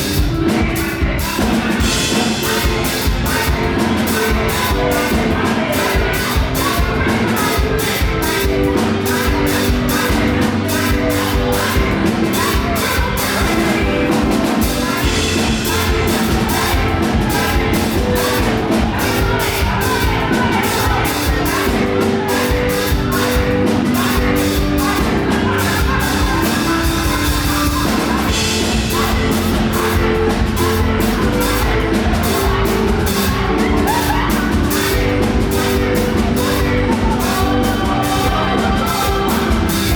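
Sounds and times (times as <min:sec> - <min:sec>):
drum kit fast beat: 0:00.0 - 0:39.9
organ chords: 0:00.0 - 0:39.9
voices singing and shouting: 0:00.0 - 0:39.9.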